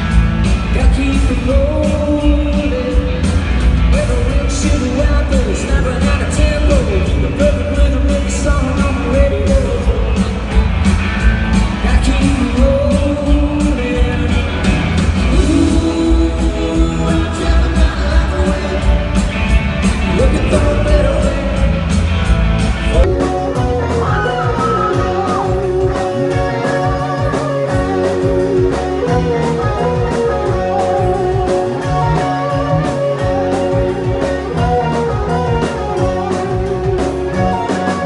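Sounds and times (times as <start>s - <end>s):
arena concert music: 0.0s - 38.0s
live rock-country band: 0.0s - 38.0s.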